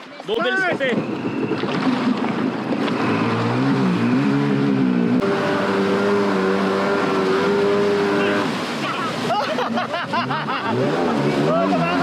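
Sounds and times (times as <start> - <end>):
jet ski engine running: 0.5 - 12.0.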